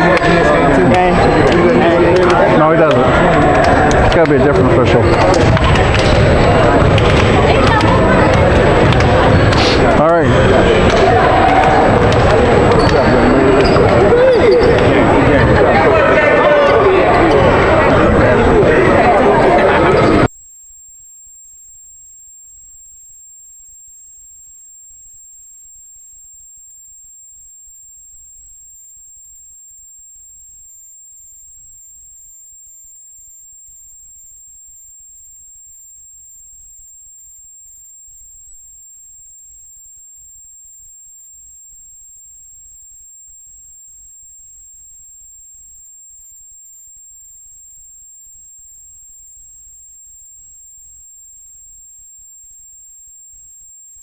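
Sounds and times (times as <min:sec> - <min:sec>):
high-pitched electronic whine: 0:00.0 - 0:54.0.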